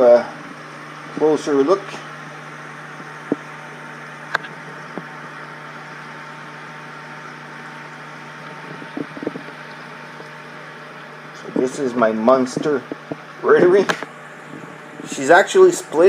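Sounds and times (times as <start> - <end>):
aquarium pumps humming: 0.0 - 16.0.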